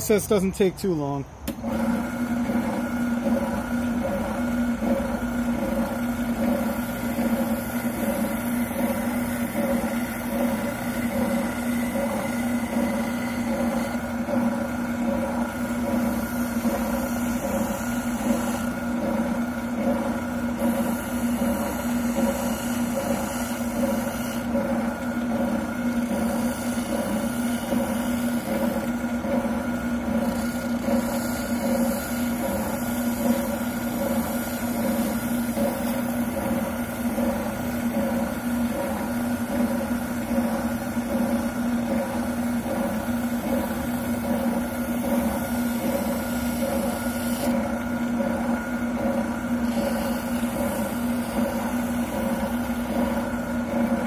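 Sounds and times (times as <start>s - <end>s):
oscillating sander motor running: 0.0s - 54.0s
plastic being sanded: 6.3s - 41.6s, 42.5s - 47.7s, 49.3s - 54.0s.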